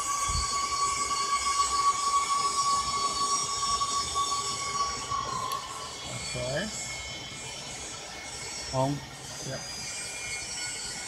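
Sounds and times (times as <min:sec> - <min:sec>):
mechanical hiss: 0:00.0 - 0:11.0
mixer motor whine: 0:00.0 - 0:11.0.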